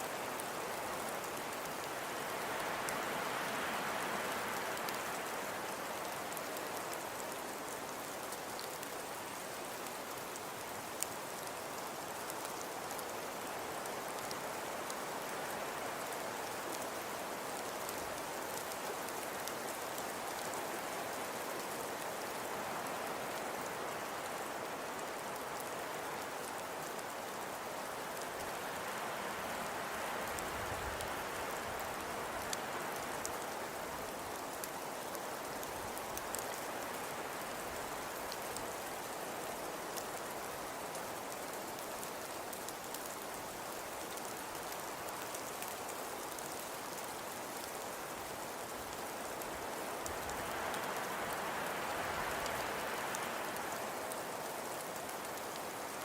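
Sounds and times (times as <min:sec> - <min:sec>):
hiss of falling precipitation: 0:00.0 - 0:56.0.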